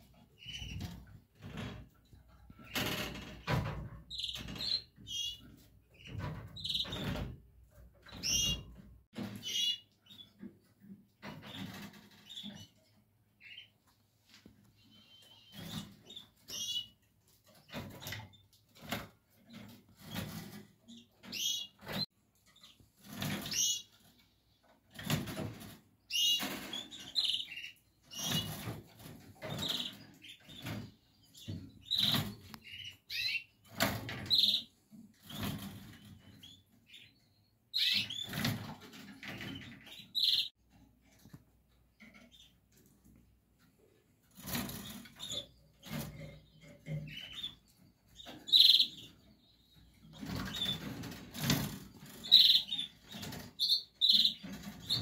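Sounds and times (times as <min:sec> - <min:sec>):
canaries chirping: 0:00.0 - 0:43.2, 0:43.8 - 0:55.0.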